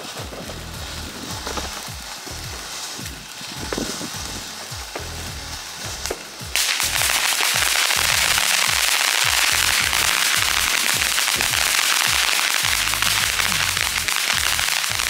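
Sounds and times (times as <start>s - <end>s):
firework crackling burst: 0.0s - 15.0s
firework fizzing and popping: 0.0s - 15.0s
bass-heavy music: 0.1s - 15.0s.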